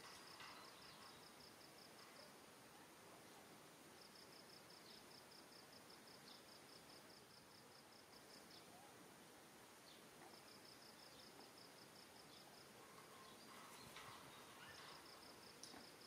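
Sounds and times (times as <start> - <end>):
high pulsing insect chirp: 0.0 - 2.4, 4.0 - 8.7, 9.8 - 16.0
quiet hiss: 0.0 - 16.0.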